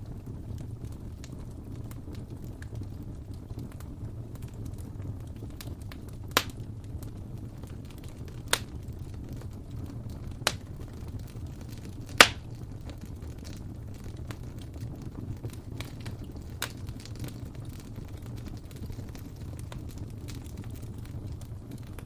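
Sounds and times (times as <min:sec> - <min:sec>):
fire popping: 0:00.0 - 0:22.0
fireplace fire crackling: 0:00.0 - 0:22.0.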